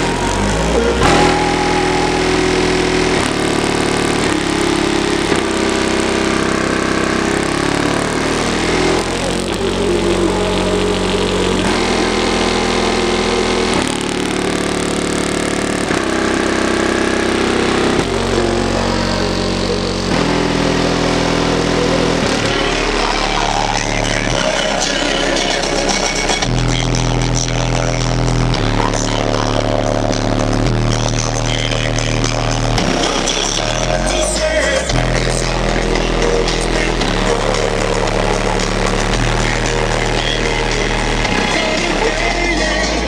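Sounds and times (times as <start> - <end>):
bass-heavy music from car stereo: 0.0 - 43.0.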